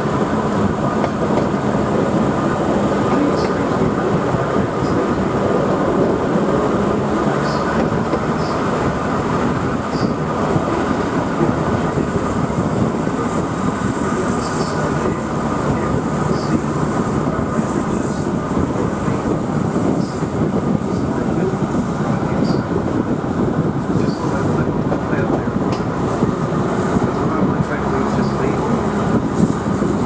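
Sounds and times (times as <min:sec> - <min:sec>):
diesel train running on track: 0:00.0 - 0:30.0.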